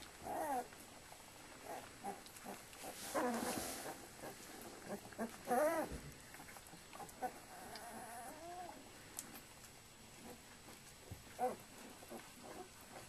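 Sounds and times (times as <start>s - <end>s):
puppy whining: 0.0s - 13.0s.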